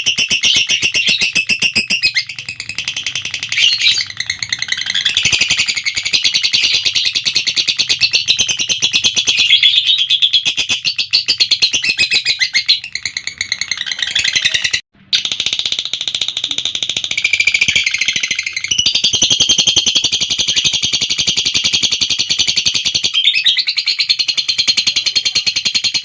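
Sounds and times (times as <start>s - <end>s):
lovebird high-pitched chattering: 0.0s - 26.0s.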